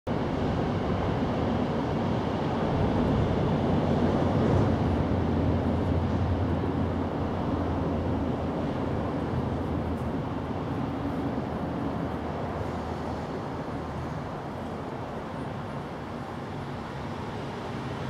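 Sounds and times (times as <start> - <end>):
low rumbling background noise: 0.1 - 18.0.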